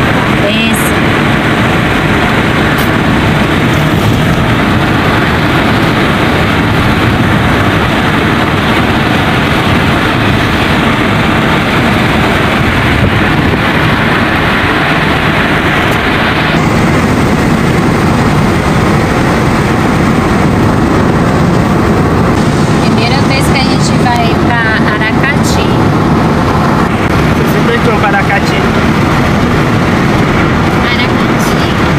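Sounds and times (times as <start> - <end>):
wind and road noise in car: 0.0 - 31.9.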